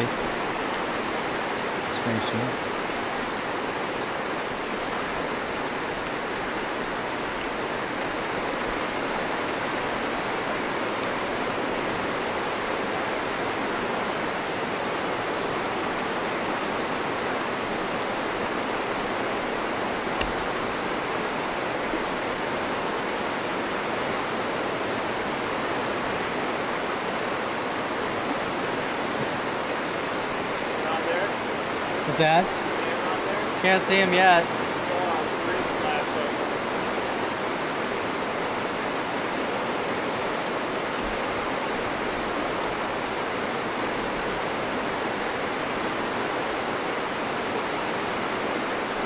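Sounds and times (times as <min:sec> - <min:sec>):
river rapids rushing over rocks: 0:00.0 - 0:49.0.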